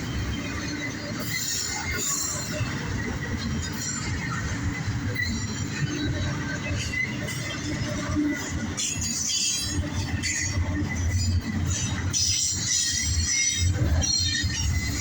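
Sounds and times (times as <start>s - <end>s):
freight train rumbling past: 0.0s - 15.0s
wheels squealing on rails: 0.0s - 15.0s.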